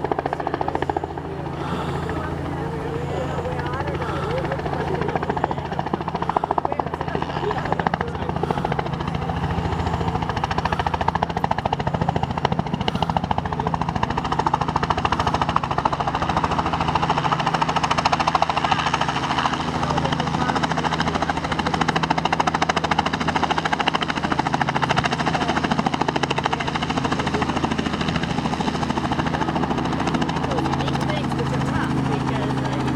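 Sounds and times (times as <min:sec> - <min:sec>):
helicopter rotor beating: 0:00.0 - 0:32.9.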